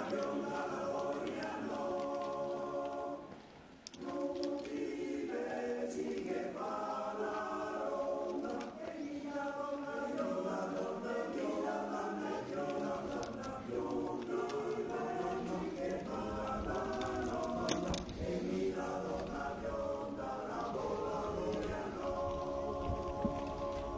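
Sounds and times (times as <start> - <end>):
choir singing unaccompanied: 0.0 - 23.9.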